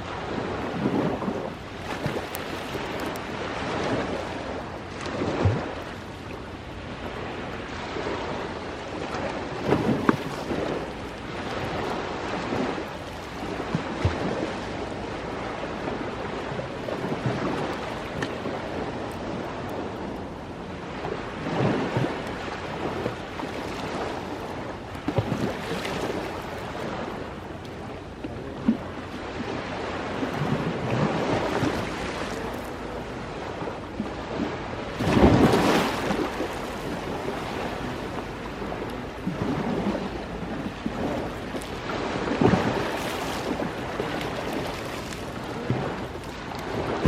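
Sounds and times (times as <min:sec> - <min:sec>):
ocean waves washing onto shore: 0:00.0 - 0:47.0.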